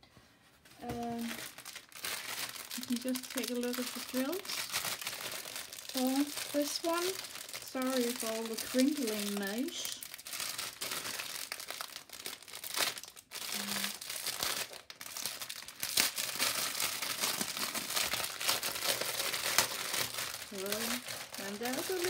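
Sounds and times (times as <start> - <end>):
plastic packaging crinkling: 0.6 - 22.0.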